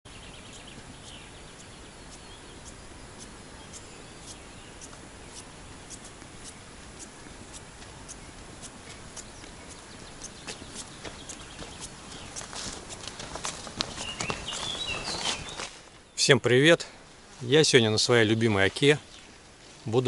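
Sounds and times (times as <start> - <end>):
bird chirping: 0.1 - 16.4
steady outdoor hiss: 0.1 - 20.0
footsteps through tall grass: 0.5 - 16.1, 18.5 - 20.0.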